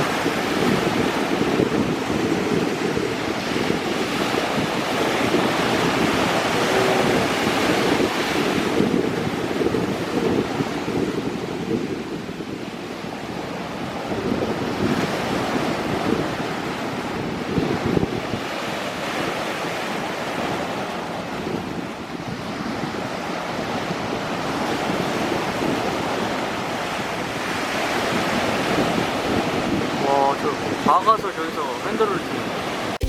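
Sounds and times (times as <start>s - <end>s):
wind buffeting microphone: 0.0s - 31.1s
sea waves washing onto beach: 0.0s - 33.0s.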